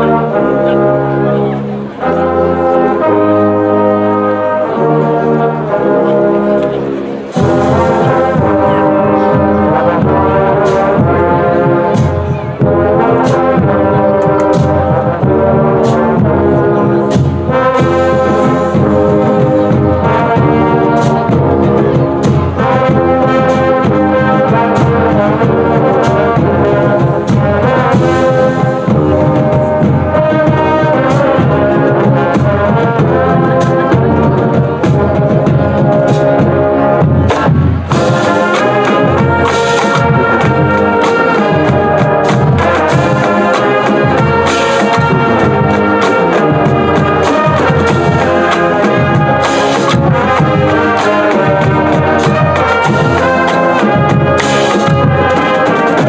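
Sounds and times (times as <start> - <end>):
brass band playing: 0.0 - 56.0
steady drum beat: 7.3 - 56.0.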